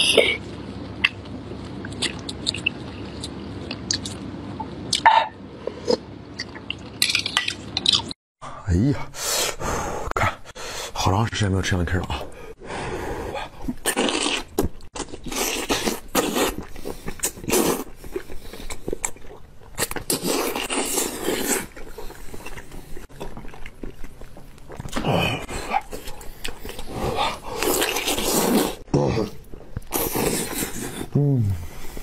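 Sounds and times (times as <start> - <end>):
man chewing and crunching: 0.0 - 8.1, 13.6 - 31.2.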